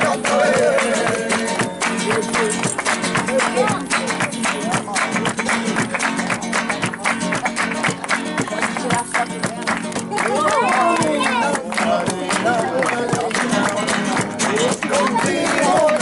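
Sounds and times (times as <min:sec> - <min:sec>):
strummed flamenco guitar: 0:00.0 - 0:16.0.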